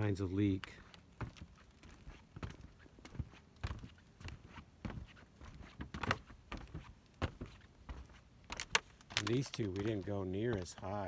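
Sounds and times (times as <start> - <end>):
footsteps on shingle roof: 0.0 - 11.0.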